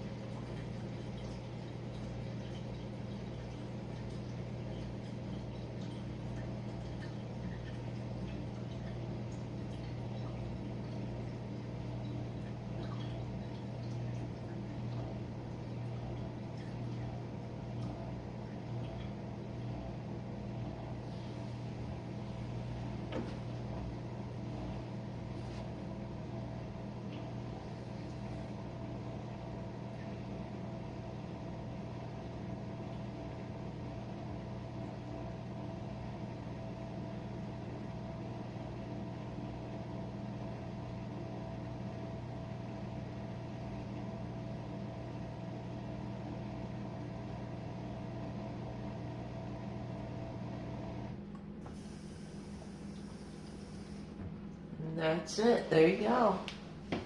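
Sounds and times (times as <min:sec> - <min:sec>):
dishwasher motor hum: 0:00.0 - 0:57.0.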